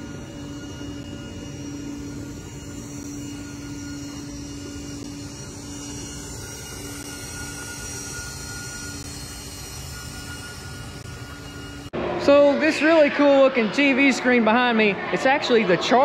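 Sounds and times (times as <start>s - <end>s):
constant low hum: 0.0s - 16.0s
electric car airy whir: 0.0s - 16.0s.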